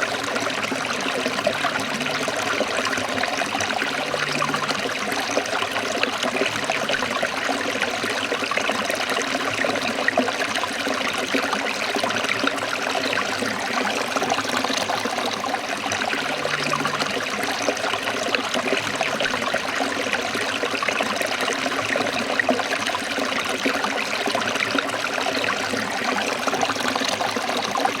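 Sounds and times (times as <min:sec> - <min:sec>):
stream trickling over rocks: 0:00.0 - 0:28.0.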